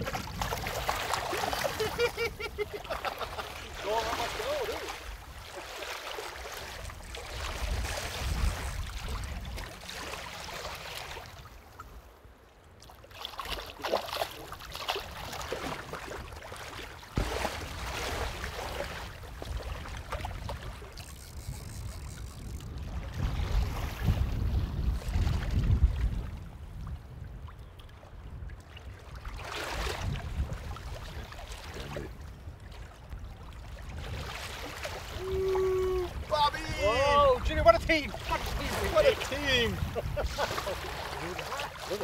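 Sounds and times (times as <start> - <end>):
wind rumble on microphone: 0.0 - 3.8, 6.5 - 12.1, 17.1 - 42.0
water sloshing and splashing: 0.0 - 42.0.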